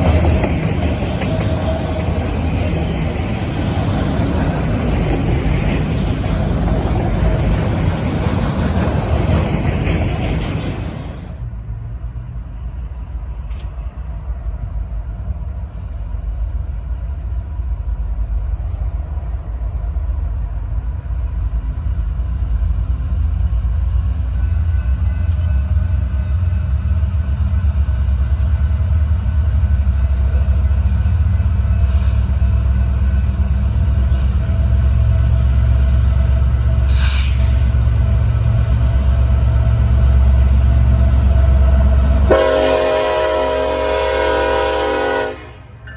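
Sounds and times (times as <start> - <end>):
diesel locomotive engines rumbling: 0.0 - 45.9.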